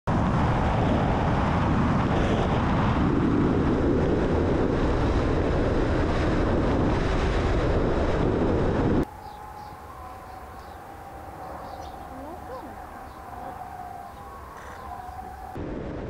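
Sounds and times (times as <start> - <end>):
wind rushing and rumble: 0.1 - 16.0.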